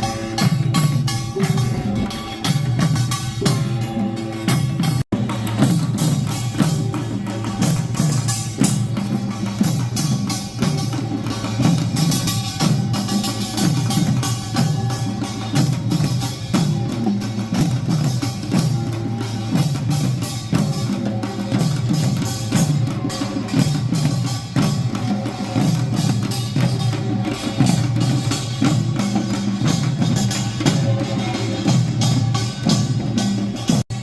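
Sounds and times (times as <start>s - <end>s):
drums beating: 0.0s - 34.0s.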